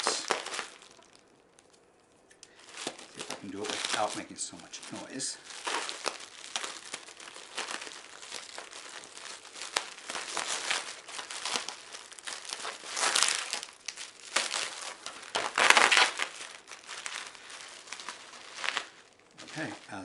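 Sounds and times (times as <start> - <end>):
packaging crinkling: 0.0 - 20.0.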